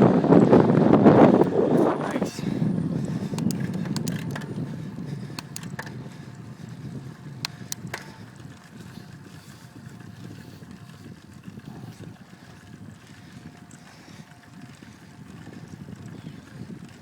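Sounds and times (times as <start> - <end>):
bicycle road noise: 0.0 - 17.0
wind on microphone: 0.0 - 17.0
faint clicks: 3.0 - 17.0.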